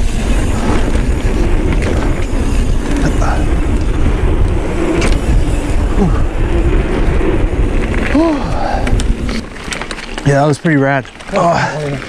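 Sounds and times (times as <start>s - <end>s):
wind rush on microphone: 0.0s - 10.2s
bike clicks and rattles: 0.0s - 12.0s
tyres rumbling on dirt: 0.0s - 12.0s.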